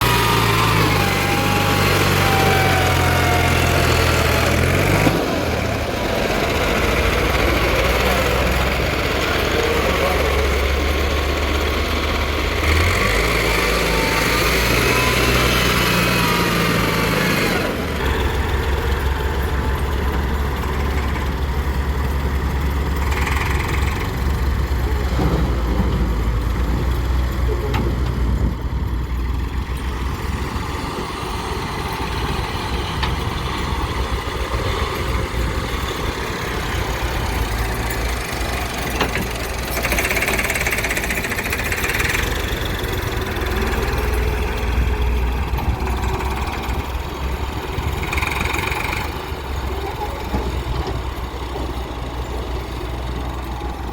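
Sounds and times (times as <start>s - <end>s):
backhoe diesel engine working: 0.0s - 53.9s.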